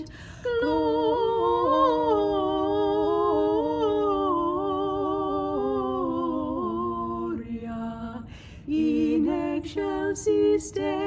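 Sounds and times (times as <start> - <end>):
voices singing a carol: 0.0 - 11.0.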